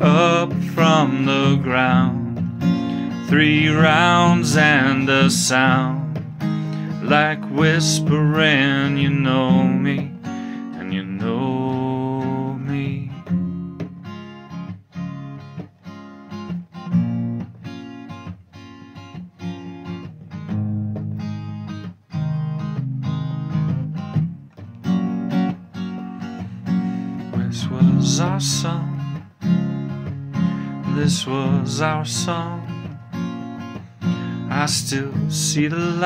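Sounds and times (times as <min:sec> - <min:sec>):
acoustic guitar strumming: 0:00.0 - 0:36.0.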